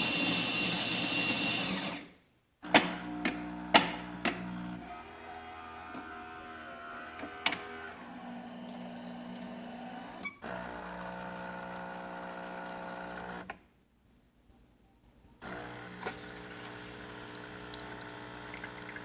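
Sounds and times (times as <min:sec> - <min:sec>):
espresso machine motor and pump hum: 0:00.0 - 0:02.0, 0:03.1 - 0:13.5, 0:15.4 - 0:19.0.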